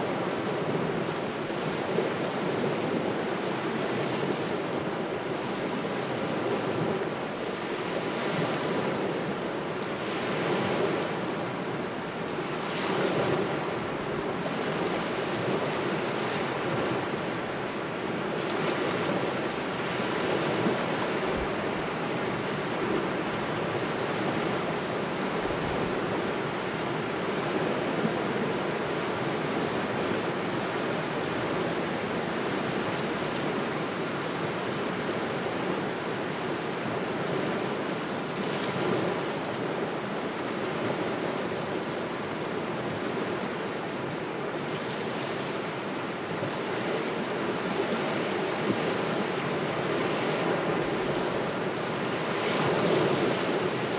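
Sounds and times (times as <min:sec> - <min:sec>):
steady wind: 0:00.0 - 0:53.9
waves washing against shore: 0:00.0 - 0:53.9.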